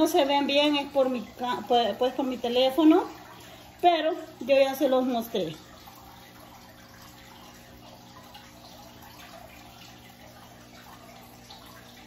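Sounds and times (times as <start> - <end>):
aquarium filter hum: 0.0 - 12.0
water trickling: 0.0 - 12.0.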